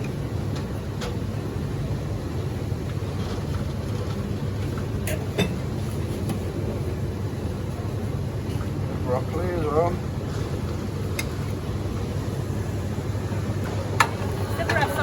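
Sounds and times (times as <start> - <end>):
restaurant background rumble: 0.0 - 15.0.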